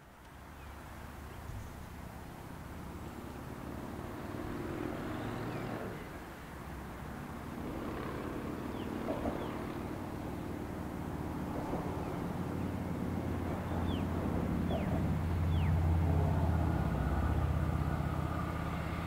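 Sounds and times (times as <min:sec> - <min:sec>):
diesel train engine drone: 0:02.7 - 0:19.0.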